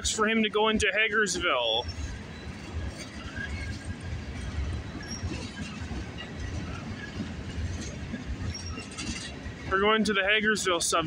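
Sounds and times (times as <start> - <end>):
low rumble of train wheels: 0.0 - 11.0.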